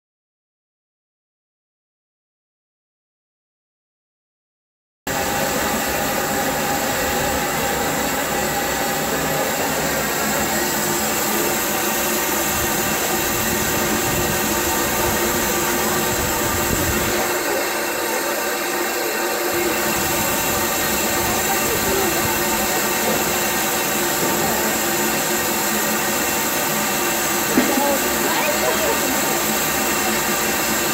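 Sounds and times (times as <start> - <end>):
steam hissing from locomotive: 5.1 - 30.9.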